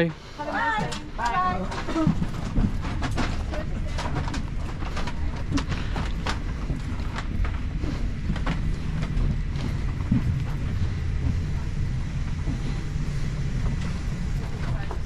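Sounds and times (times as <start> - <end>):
aircraft cabin rumble: 0.2 - 15.0
footsteps in aisle: 0.6 - 15.0.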